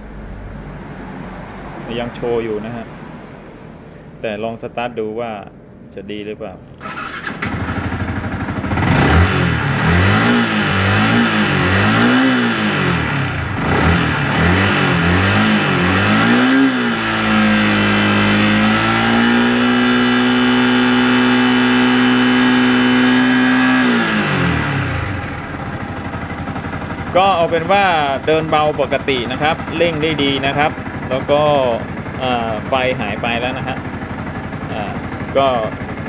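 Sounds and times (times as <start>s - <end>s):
motorcycle engine revving: 6.8s - 36.0s.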